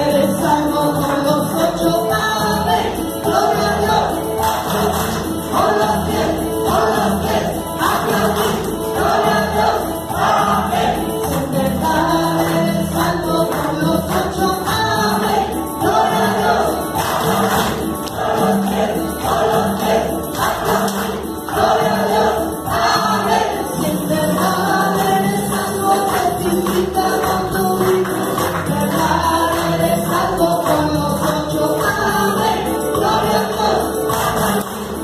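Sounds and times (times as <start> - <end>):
woman singing into microphone: 0.0 - 4.5, 5.5 - 17.0, 21.8 - 34.4
keyboard accompaniment: 0.0 - 35.0
voices singing along: 0.0 - 35.0.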